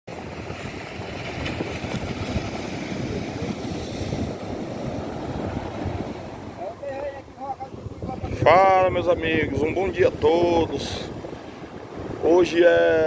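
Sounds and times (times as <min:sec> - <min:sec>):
surf breaking on beach: 0:00.1 - 0:13.0
wind buffeting microphone: 0:00.1 - 0:13.0.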